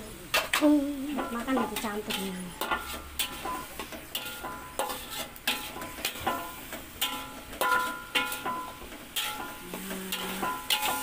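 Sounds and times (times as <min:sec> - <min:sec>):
frying sizzle: 0:00.0 - 0:11.0
metal spatula striking wok: 0:00.3 - 0:11.0.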